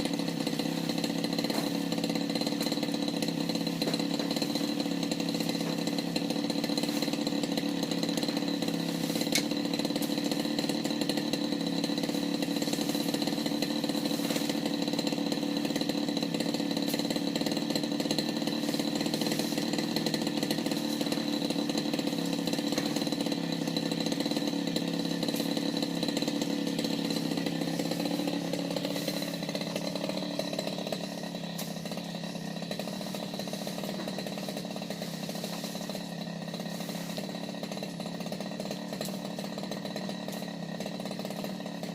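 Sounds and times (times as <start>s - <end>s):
petrol brush cutter running: 0.0s - 41.9s.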